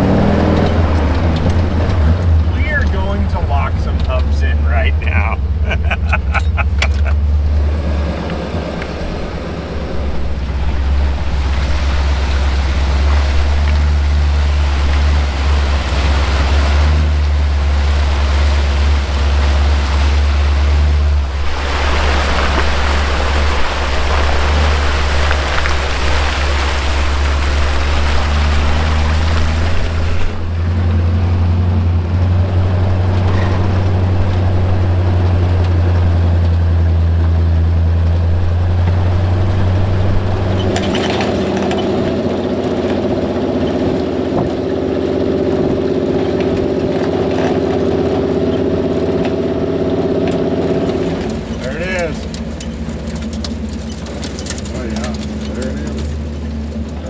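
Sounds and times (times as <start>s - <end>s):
truck engine droning: 0.0s - 57.0s
wheels rushing on trail: 0.0s - 57.0s.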